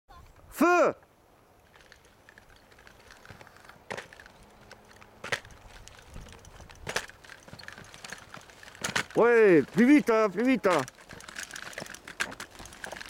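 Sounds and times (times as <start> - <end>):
faint outdoor background noise: 0.1 - 13.0.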